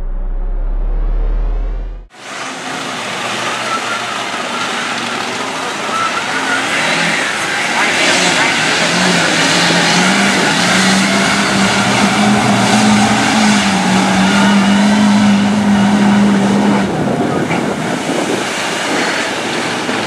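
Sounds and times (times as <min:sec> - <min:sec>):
diesel truck engine revving high: 0:00.0 - 0:20.0
tires churning through mud: 0:02.1 - 0:20.0.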